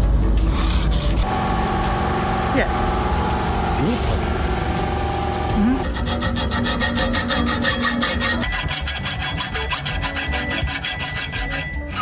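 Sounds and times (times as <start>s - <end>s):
reciprocating saw cutting metal pipe: 0.7s - 12.0s.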